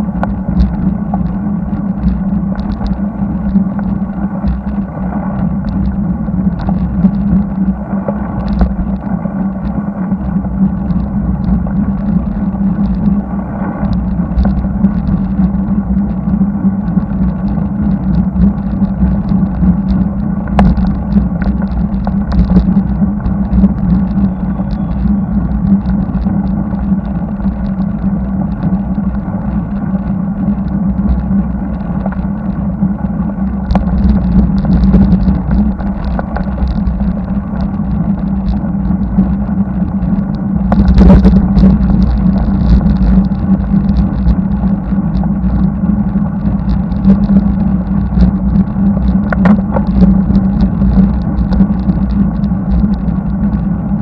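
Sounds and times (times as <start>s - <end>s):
muffled wind and road noise: 0.0s - 54.0s.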